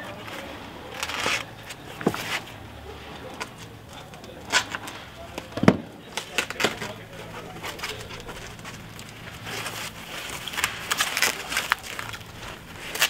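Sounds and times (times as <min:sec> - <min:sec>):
foam wrap rustling and crackling: 0:00.0 - 0:13.0.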